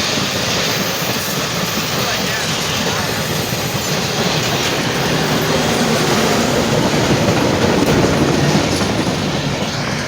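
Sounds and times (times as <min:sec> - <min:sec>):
train rumbling past: 0:00.0 - 0:10.0
wheels clattering on rails: 0:00.0 - 0:10.0.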